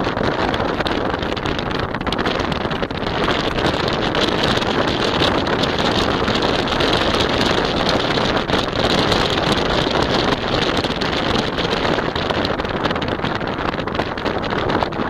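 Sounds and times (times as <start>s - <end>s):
moving vehicle noise: 0.0s - 15.0s
wind buffeting microphone: 0.0s - 15.0s.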